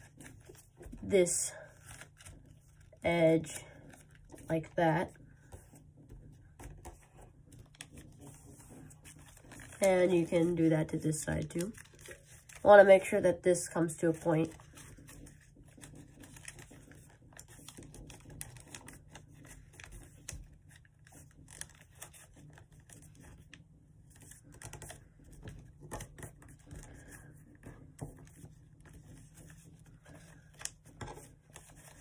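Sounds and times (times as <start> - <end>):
paper being folded and creased: 0.0 - 32.0.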